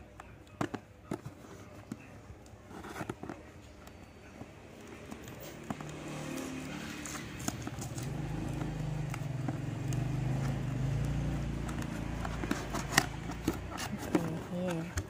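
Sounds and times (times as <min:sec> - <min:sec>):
fingers tapping cardboard: 0:00.0 - 0:15.0.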